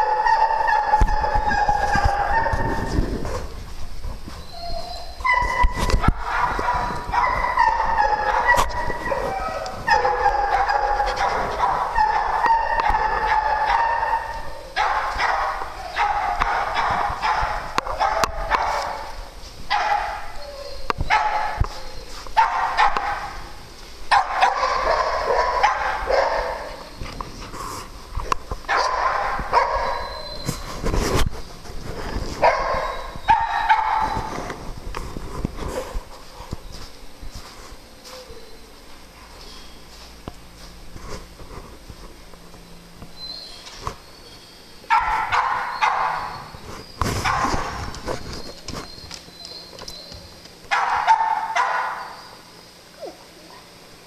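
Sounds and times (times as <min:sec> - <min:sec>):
dogs barking and yipping: 0:00.0 - 0:54.0.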